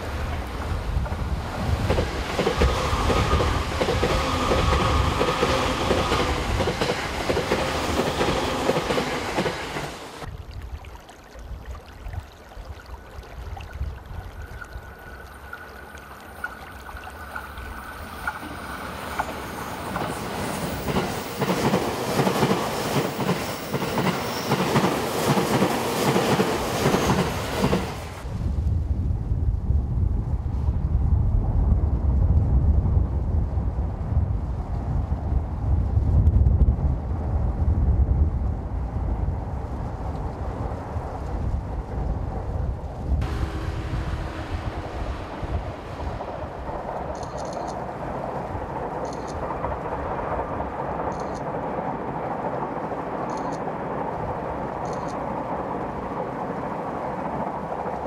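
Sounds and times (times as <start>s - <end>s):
electric trains passing at speed: 0.0s - 10.3s, 13.0s - 58.0s.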